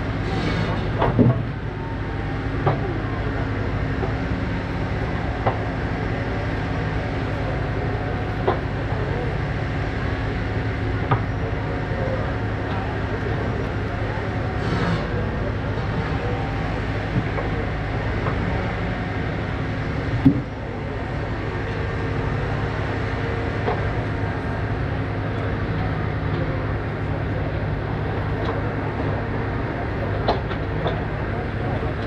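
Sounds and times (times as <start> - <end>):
heavy machinery engine running: 0.0 - 32.0.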